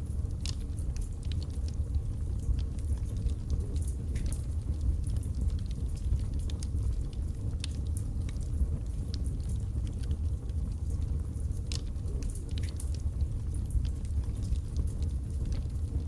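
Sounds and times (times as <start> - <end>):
fire roaring: 0.0 - 16.0
logs crackling and popping: 0.0 - 16.0.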